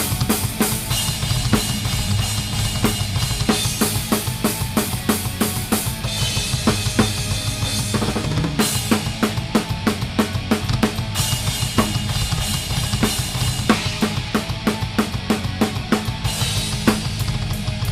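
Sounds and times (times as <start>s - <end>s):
bass-heavy guitars: 0.0s - 17.9s
live heavy metal band playing: 0.0s - 17.9s.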